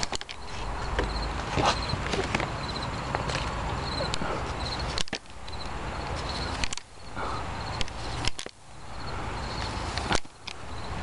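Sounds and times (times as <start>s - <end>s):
cricket chirping: 0.0s - 11.0s
outdoor rumble: 0.0s - 11.0s.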